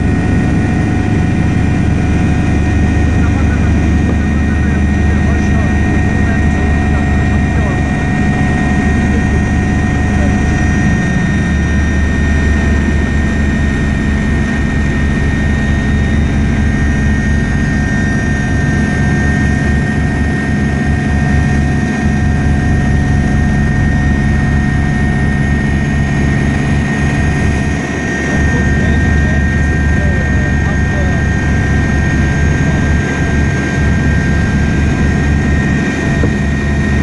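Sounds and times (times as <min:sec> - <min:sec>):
helicopter engine whine: 0:00.0 - 0:37.0
helicopter rotor beat: 0:00.0 - 0:37.0.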